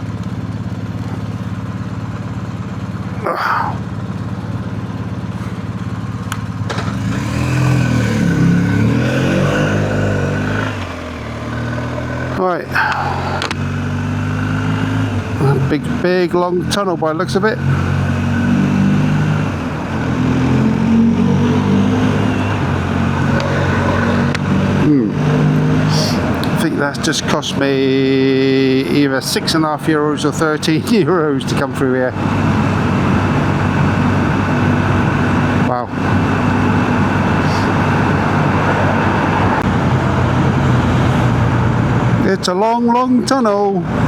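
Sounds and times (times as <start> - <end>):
motorcycle engine running: 0.0 - 44.0
road noise: 0.0 - 44.0.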